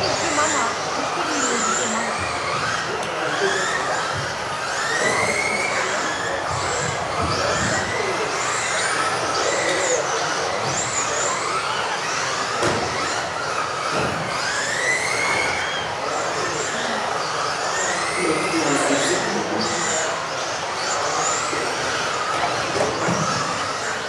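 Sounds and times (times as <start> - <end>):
electric rc car motors whining: 0.0 - 24.0.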